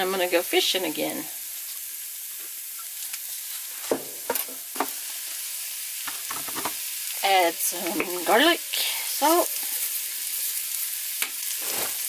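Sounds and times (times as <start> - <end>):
mushrooms sizzling in skillet: 0.0 - 12.0.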